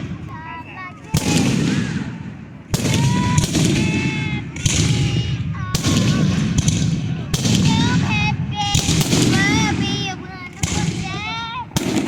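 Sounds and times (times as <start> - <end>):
fireworks bangs: 0.0 - 12.0
fireworks crackling: 0.0 - 12.0
shrill whistling fireworks: 0.0 - 12.0.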